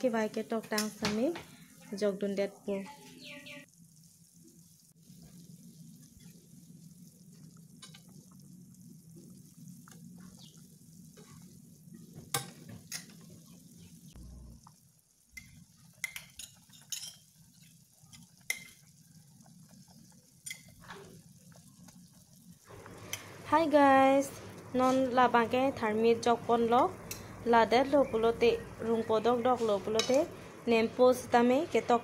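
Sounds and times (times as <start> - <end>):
broth boiling in metal pan: 0.0 - 32.0.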